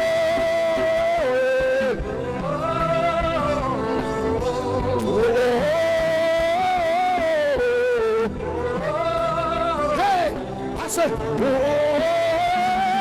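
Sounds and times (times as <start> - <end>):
gospel backing music: 0.0 - 13.0
person singing long wordless notes: 0.0 - 13.0.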